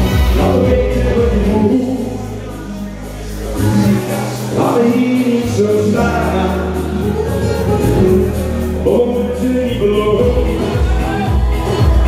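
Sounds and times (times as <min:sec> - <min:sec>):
long held bass notes: 0:00.0 - 0:12.0
party music with singing: 0:00.0 - 0:12.0.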